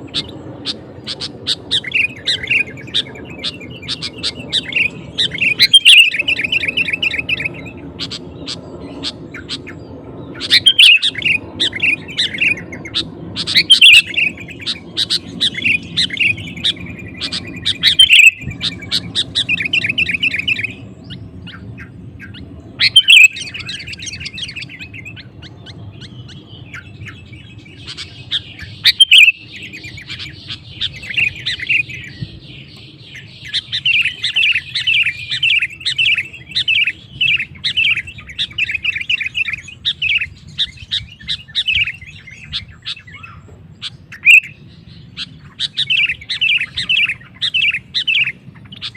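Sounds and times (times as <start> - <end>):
bird singing bright chirping phrases: 0.0 - 48.9
steady low hum: 0.0 - 48.9.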